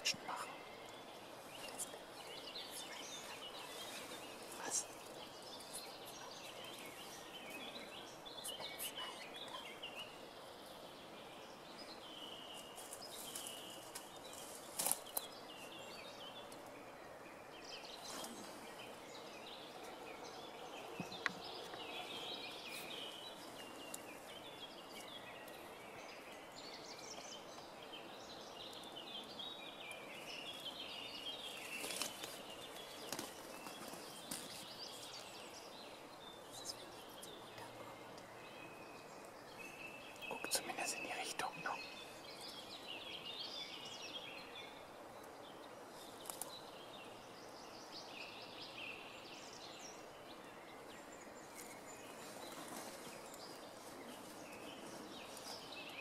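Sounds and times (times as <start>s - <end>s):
birds chirping and calling: 0.0s - 16.8s, 17.4s - 50.1s
faint outdoor hiss: 0.0s - 56.0s.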